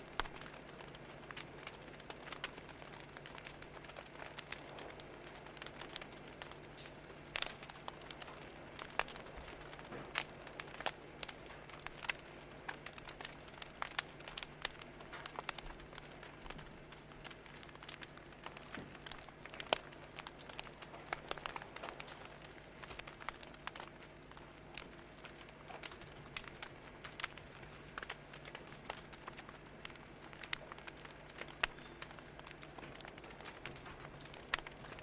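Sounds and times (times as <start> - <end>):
fire crackling: 0.0 - 35.0.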